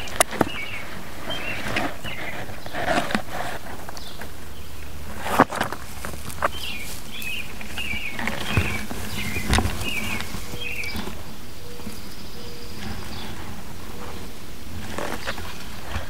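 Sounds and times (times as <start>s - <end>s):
bird chirping: 0.0s - 16.0s
outdoor background noise: 0.0s - 16.0s.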